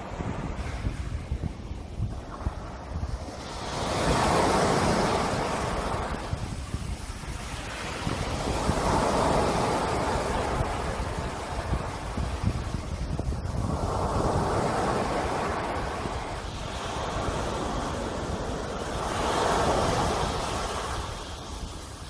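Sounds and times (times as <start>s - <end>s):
sea waves washing ashore: 0.0s - 22.0s
wind rumbling on microphone: 0.0s - 22.0s.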